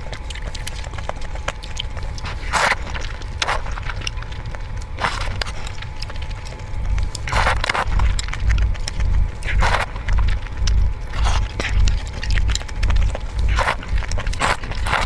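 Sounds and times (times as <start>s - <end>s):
eating mouth sounds: 0.0s - 15.0s
low rumble: 0.0s - 15.0s.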